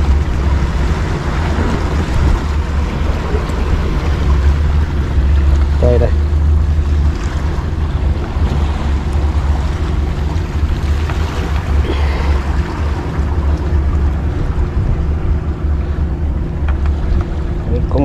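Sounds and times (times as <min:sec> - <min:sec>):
waves against rocks: 0:00.0 - 0:18.0
wind buffeting microphone: 0:00.0 - 0:18.0.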